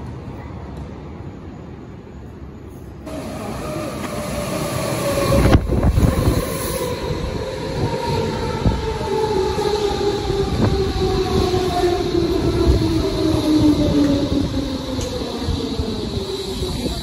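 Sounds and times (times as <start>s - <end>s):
train rolling rumble: 2.9s - 17.0s.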